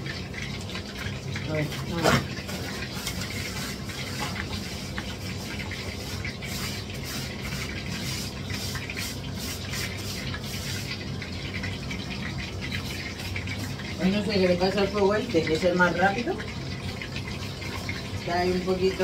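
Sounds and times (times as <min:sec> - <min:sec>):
oil sizzling in frying pan: 0:00.0 - 0:19.0.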